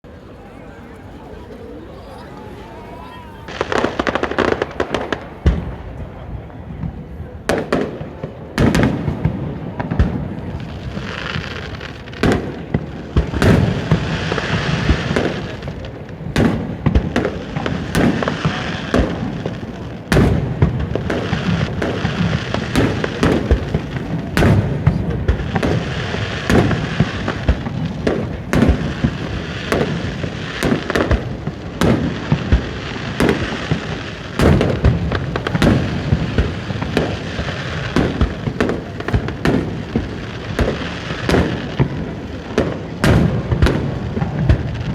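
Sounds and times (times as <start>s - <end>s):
fireworks crackling: 0.1s - 44.9s
firework shells booming: 3.5s - 44.9s.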